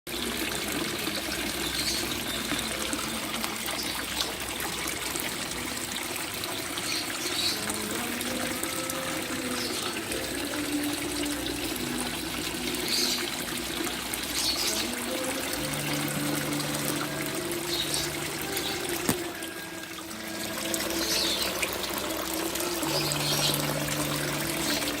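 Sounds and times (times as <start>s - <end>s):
water trickling: 0.1s - 25.0s.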